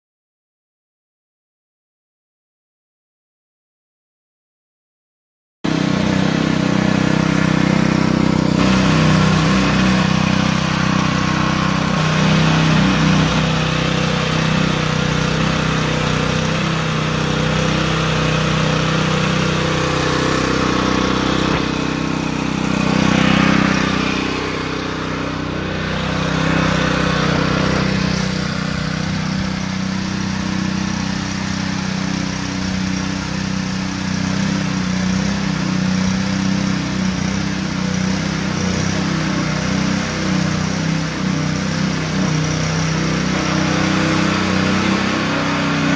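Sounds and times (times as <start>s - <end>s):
small petrol engine running: 5.7s - 45.9s.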